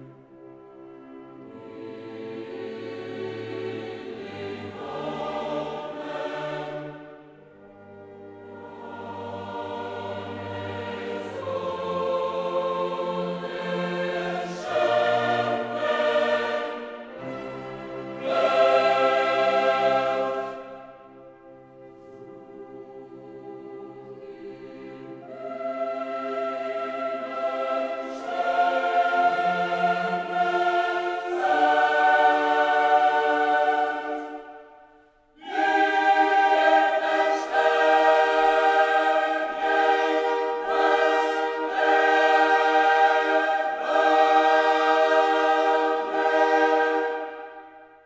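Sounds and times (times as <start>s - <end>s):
choir singing held chords: 0.0s - 48.0s.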